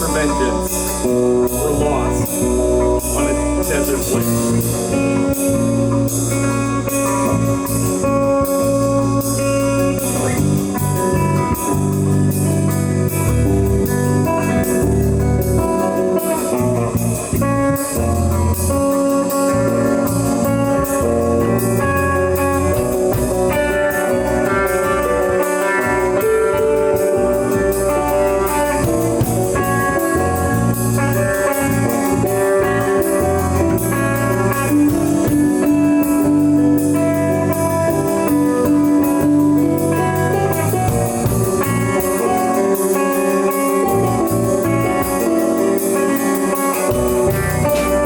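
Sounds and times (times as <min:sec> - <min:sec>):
drums on cymbals: 0:00.0 - 0:48.0
electric guitar lines: 0:00.0 - 0:48.0
sustained bass notes: 0:00.0 - 0:48.0.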